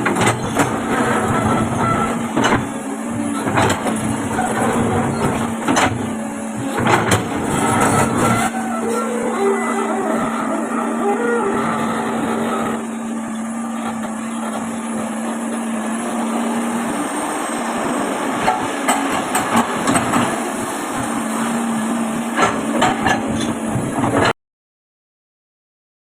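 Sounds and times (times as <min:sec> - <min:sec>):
excavator diesel engine droning: 0:00.0 - 0:24.3.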